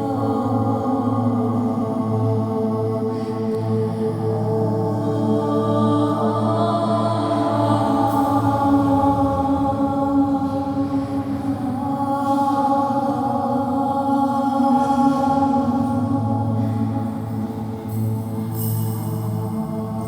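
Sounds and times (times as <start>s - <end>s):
low drone: 3.3s - 20.0s.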